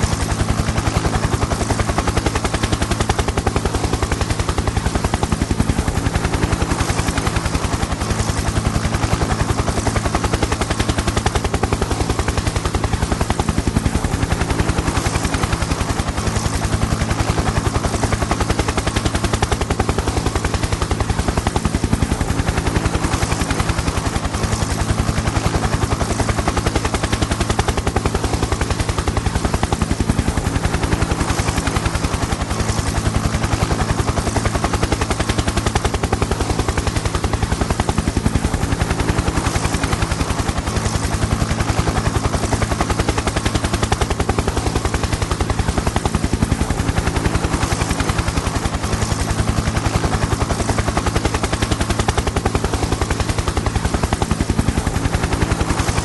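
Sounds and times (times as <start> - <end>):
helicopter engine drone: 0.0 - 56.0
helicopter rotor chop: 0.0 - 56.0.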